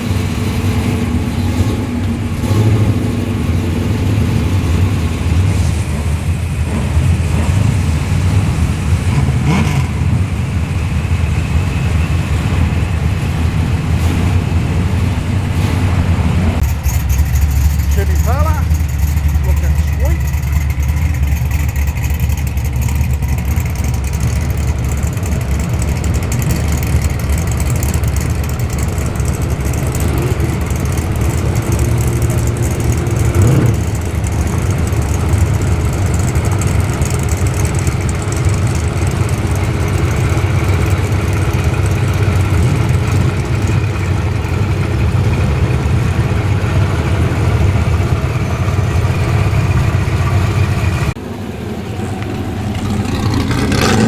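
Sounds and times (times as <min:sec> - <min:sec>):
car engine idling: 0:00.0 - 0:54.0
engine throttle blip: 0:00.0 - 0:54.0.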